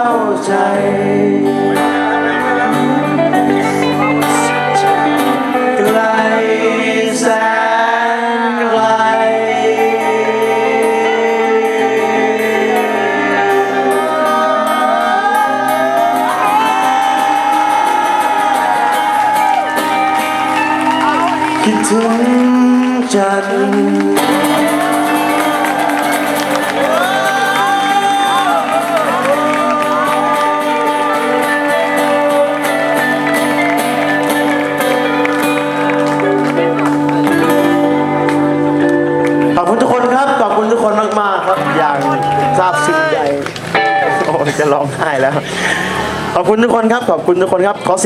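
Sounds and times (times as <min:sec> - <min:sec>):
voices singing and whooping: 0:00.0 - 0:35.2, 0:40.0 - 0:43.6
live band music: 0:01.5 - 0:22.4, 0:24.1 - 0:46.4.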